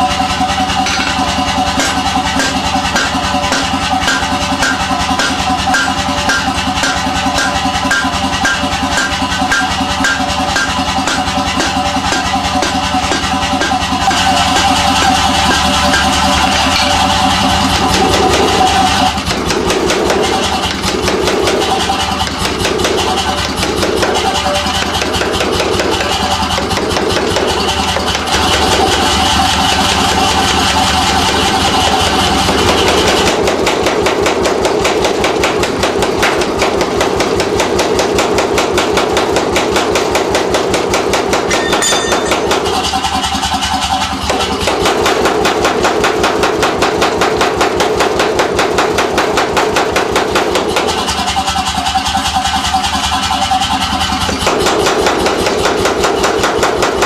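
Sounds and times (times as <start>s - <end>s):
power hammer striking hot steel: 0.0s - 57.0s.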